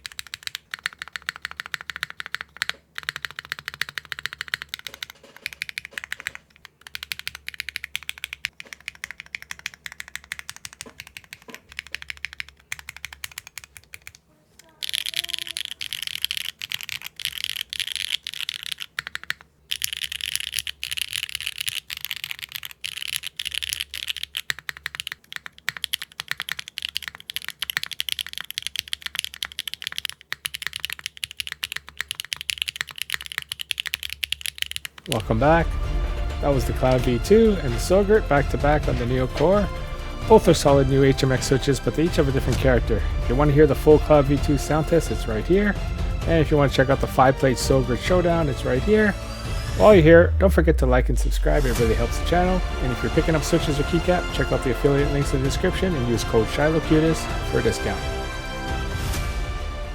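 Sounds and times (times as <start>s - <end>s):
fast typing on mechanical keyboard: 0.0s - 35.8s, 36.4s - 49.2s, 51.7s - 58.0s.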